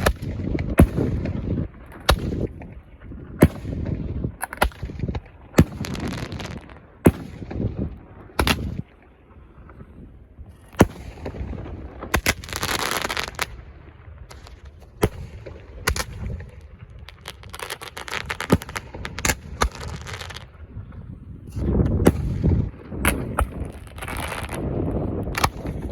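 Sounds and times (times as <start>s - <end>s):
fireworks bangs: 0.0s - 25.9s
fireworks crackling pops: 0.0s - 25.9s.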